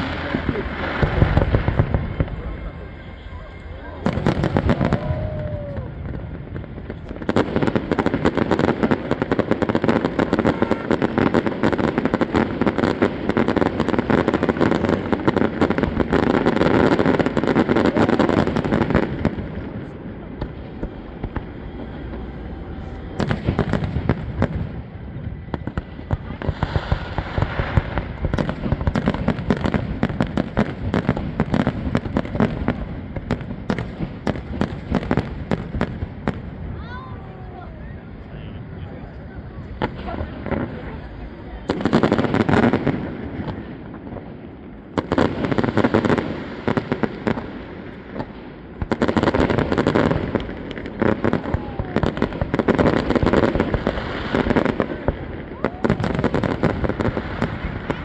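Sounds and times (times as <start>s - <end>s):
fireworks crackling and popping: 0.0s - 58.0s.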